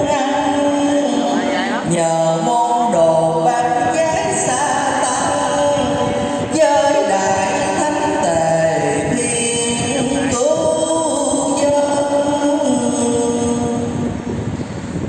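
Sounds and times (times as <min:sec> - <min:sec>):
man chanting verse: 0:00.0 - 0:14.2.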